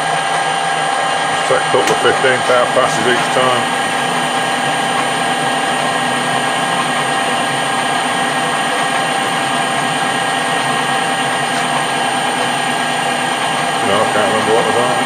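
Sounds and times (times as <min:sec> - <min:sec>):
lathe cutting metal: 0:00.0 - 0:15.0
metal lathe whine: 0:00.0 - 0:15.0.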